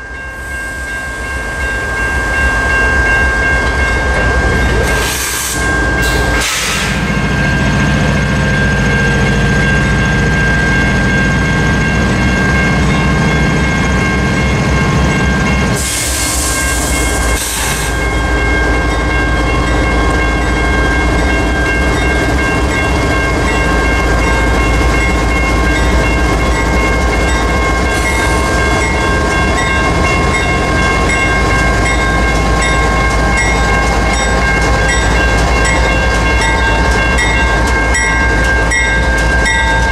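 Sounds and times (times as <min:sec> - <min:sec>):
crossing bell ringing: 0:00.0 - 0:39.9
diesel locomotive engines running: 0:00.0 - 0:39.9.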